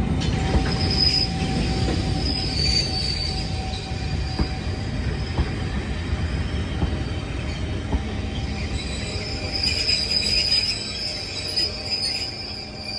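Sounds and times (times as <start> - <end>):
train wheels rumbling: 0.0 - 12.9
metallic wheel squeal: 0.4 - 12.9.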